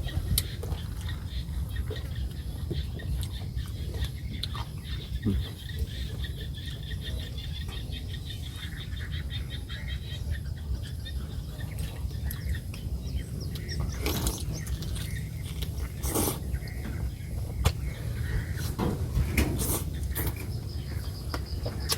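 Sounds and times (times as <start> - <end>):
birds chirping in a trill: 0.0 - 21.9
steady low rumble: 0.0 - 21.9.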